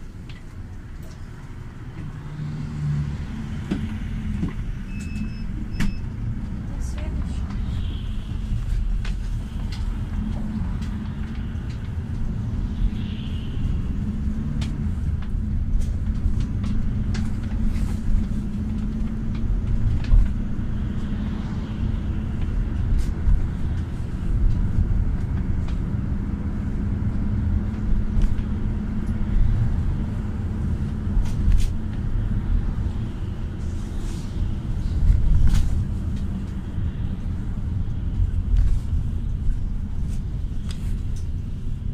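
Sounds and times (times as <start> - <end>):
engine and road rumble: 0.0 - 41.9
constant hum: 3.0 - 41.9.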